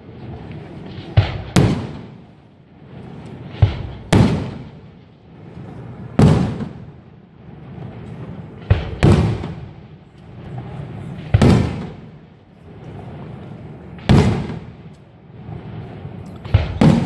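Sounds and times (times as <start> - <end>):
rolling echo: 0.0 - 17.0.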